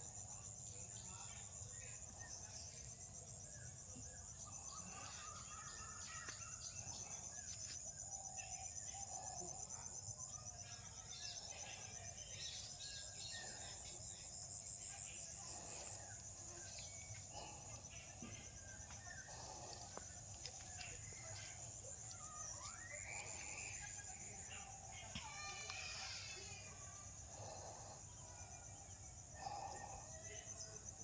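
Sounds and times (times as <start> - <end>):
insects trilling: 0.0 - 31.0
faint bird chirps: 0.2 - 31.0.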